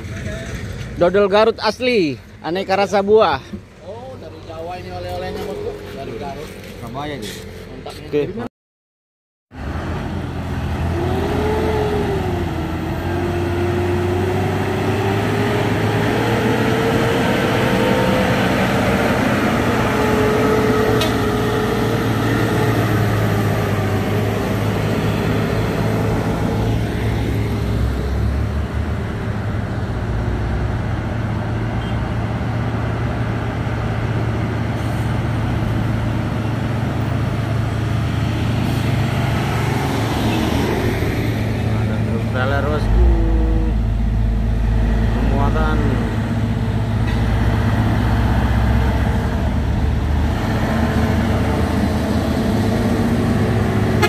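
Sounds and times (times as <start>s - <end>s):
diesel truck engines under load: 0.0s - 8.5s, 9.6s - 54.0s.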